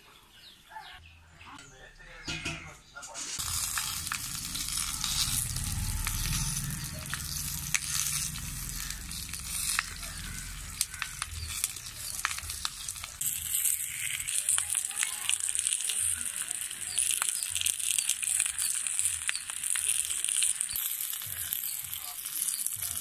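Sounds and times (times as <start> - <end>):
fish parcels sizzling on pan: 3.2 - 23.0
pops and crackles: 3.3 - 23.0.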